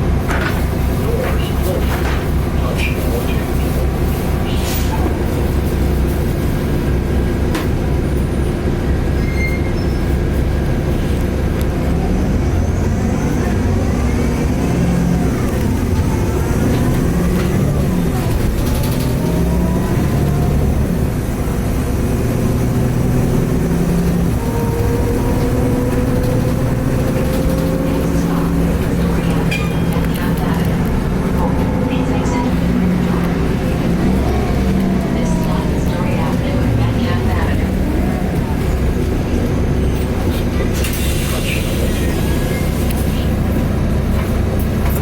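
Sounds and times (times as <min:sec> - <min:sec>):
bus diesel engine: 0:00.0 - 0:45.0.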